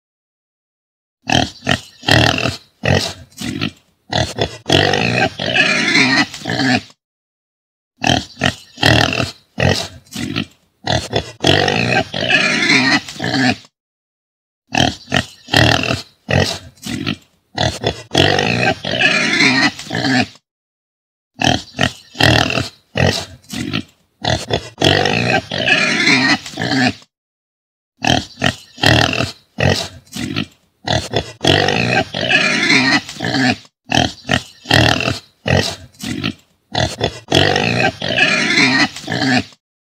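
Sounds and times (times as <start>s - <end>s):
pig calls: 1.2s - 6.9s, 8.0s - 13.7s, 14.7s - 20.4s, 21.4s - 27.0s, 28.0s - 39.6s.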